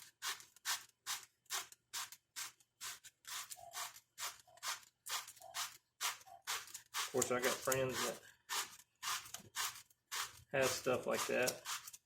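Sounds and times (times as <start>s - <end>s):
sandpaper rubbing plastic: 0.0s - 12.0s.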